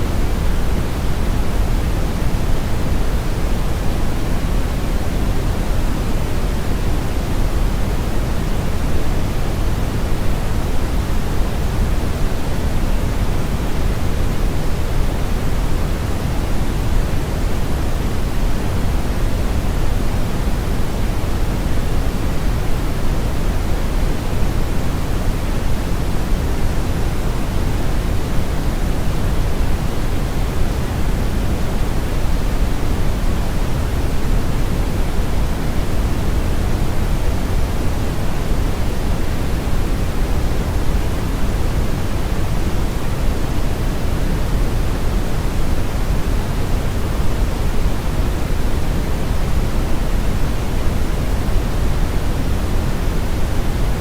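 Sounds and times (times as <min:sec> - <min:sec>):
brown and white noise: 0:00.0 - 0:54.0.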